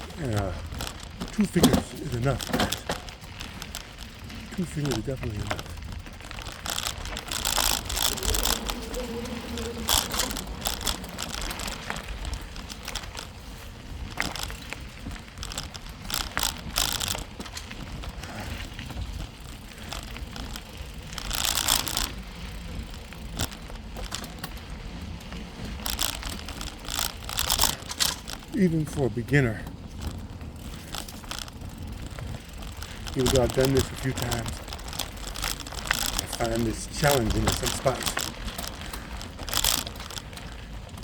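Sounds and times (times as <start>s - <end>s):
bicycle knocks and rattles: 0.0s - 41.0s
bicycle tyres rumbling on dirt: 0.0s - 41.0s.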